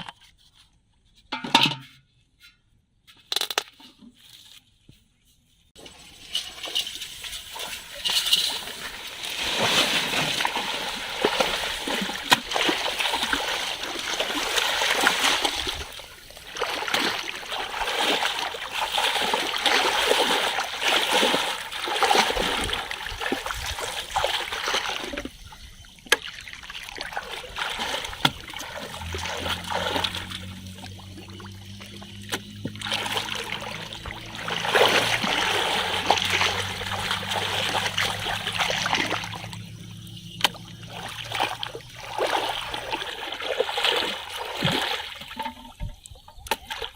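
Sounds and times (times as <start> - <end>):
shallow water splashing: 5.8 - 46.9.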